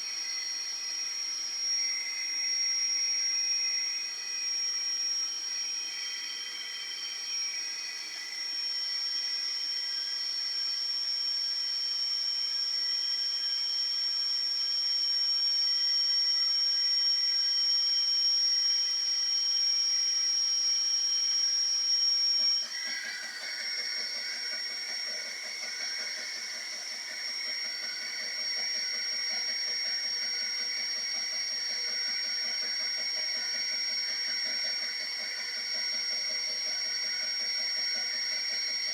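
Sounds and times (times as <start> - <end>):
printer whine over hiss: 0.0 - 38.9.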